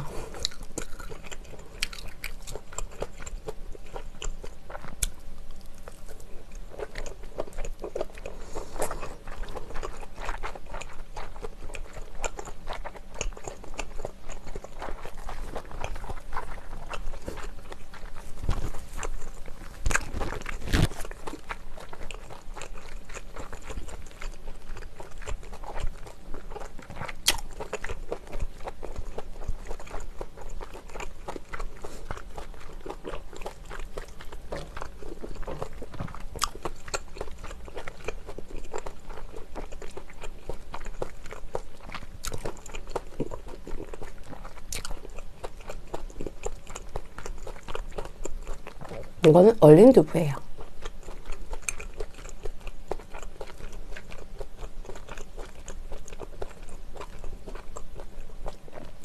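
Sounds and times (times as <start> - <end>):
person chewing food: 0.0 - 49.2, 50.4 - 59.0.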